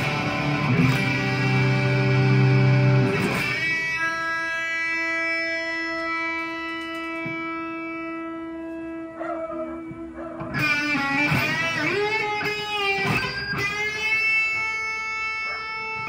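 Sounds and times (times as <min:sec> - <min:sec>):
electric guitar notes: 0:00.0 - 0:16.0.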